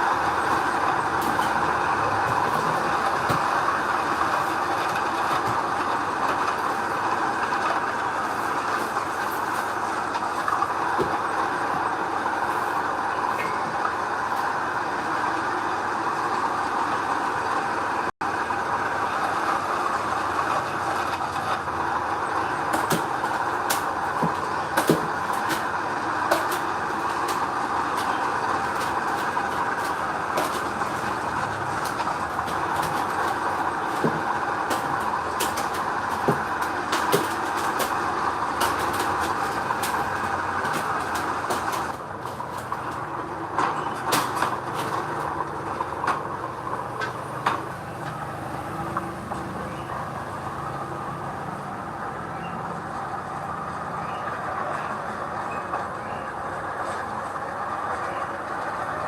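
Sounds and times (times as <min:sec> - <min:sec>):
heavy machinery engine and tracks: 0:00.0 - 0:59.0.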